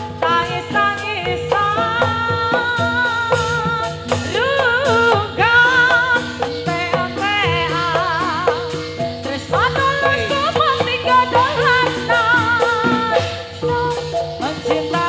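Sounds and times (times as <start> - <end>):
band accompaniment with steady beat: 0.0 - 15.0
person singing with vibrato: 0.0 - 15.0.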